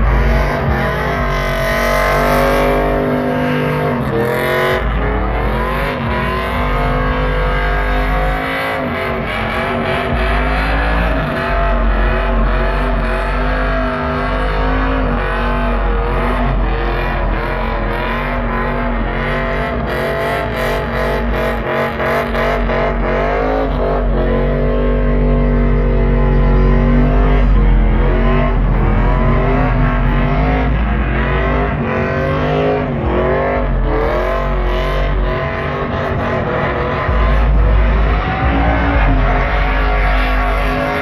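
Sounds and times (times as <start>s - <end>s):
tire noise: 0.0s - 41.0s
truck engines revving: 0.0s - 41.0s.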